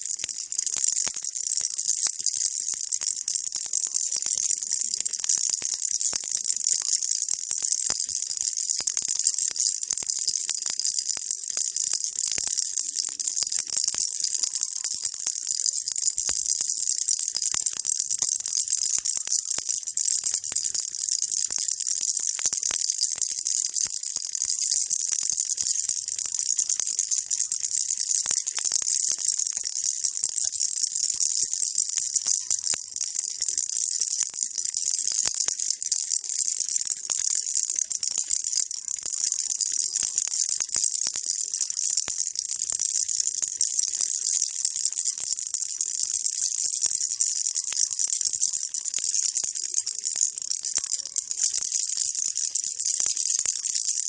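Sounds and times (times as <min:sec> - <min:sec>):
baby rattle shaken: 0:00.0 - 0:54.0.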